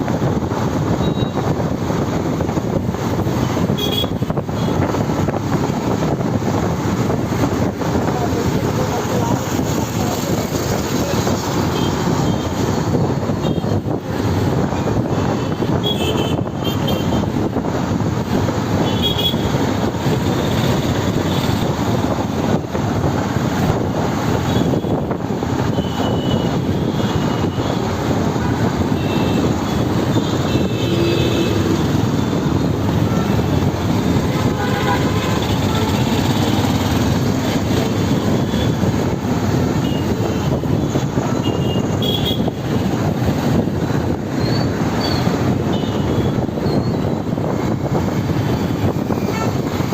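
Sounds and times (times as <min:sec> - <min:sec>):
motorbike riding noise: 0:00.0 - 0:49.9.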